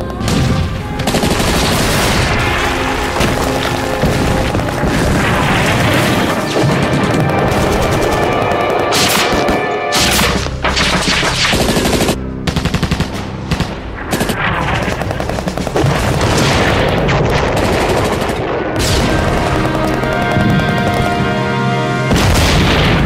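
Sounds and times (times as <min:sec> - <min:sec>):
music with long steady tones: 0:00.0 - 0:17.0, 0:18.3 - 0:22.9
automatic gunfire: 0:00.9 - 0:21.2.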